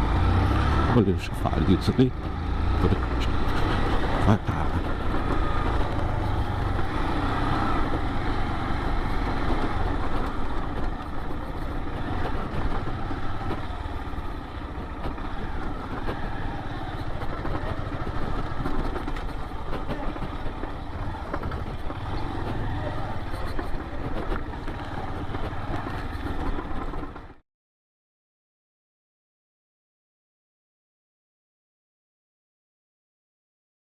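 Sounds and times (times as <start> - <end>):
motorcycle engine running: 0.0 - 27.4.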